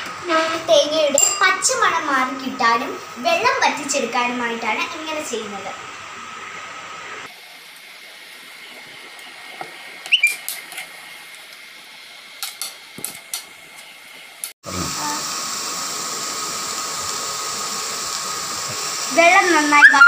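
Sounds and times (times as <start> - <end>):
food sizzling in a pan: 0.1 - 20.0.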